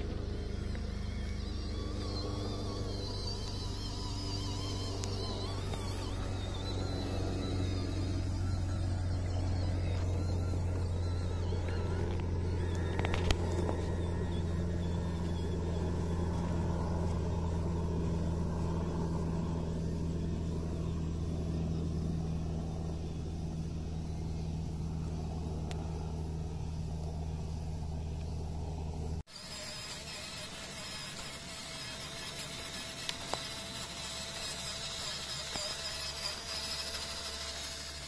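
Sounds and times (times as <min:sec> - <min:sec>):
toy truck motor humming: 0:00.0 - 0:38.0.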